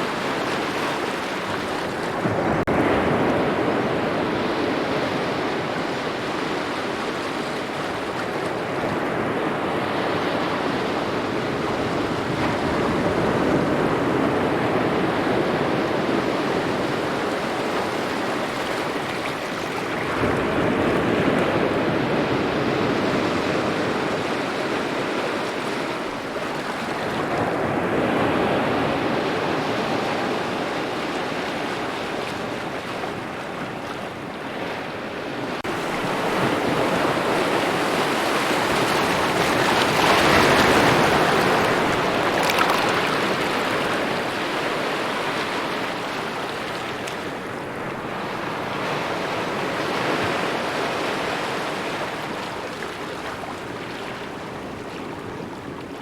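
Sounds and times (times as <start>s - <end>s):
waves lapping at shore: 0.0s - 56.0s.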